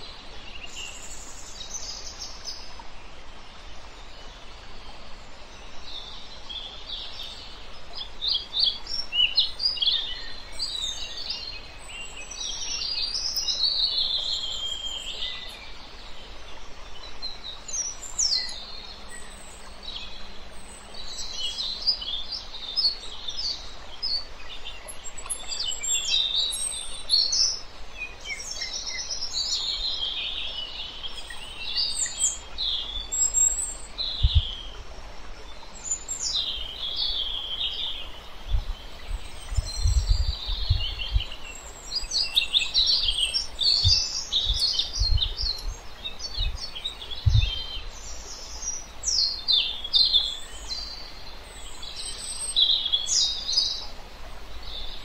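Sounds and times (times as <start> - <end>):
steady background hiss: 0.0 - 55.0
birds chirping and trilling: 5.4 - 55.0.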